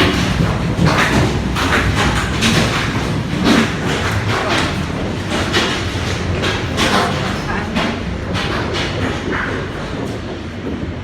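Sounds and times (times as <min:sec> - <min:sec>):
hail clattering on hard surfaces: 0:00.0 - 0:10.0.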